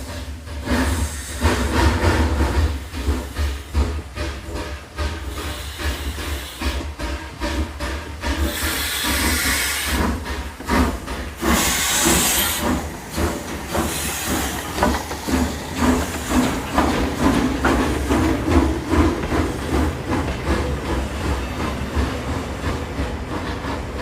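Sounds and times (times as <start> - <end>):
steam locomotive hissing: 0.0 - 24.0.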